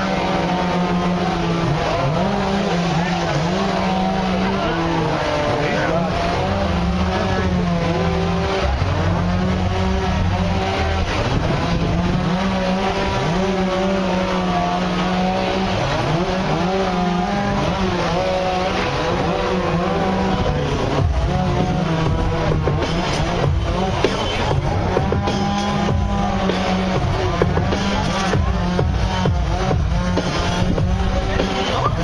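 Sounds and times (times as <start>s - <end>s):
chainsaws revving while cutting: 0.0s - 32.0s.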